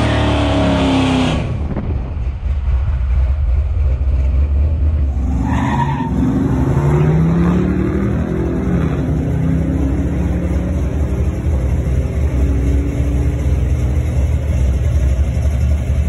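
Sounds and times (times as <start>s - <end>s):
pickup truck engine revving: 0.0s - 16.0s.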